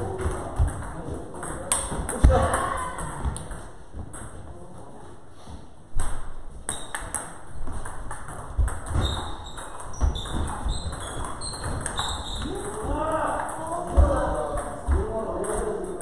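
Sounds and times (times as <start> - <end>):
ping pong ball hitting paddles: 0.0 - 4.4, 6.0 - 16.0
ball bouncing on table: 0.1 - 4.4, 6.0 - 16.0.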